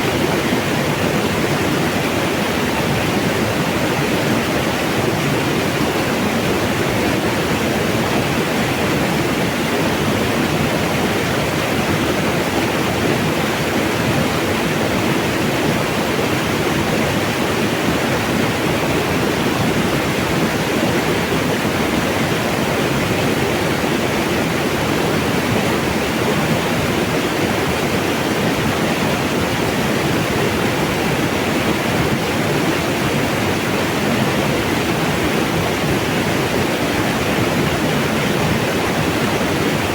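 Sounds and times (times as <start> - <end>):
mountain water rushing: 0.0 - 39.9.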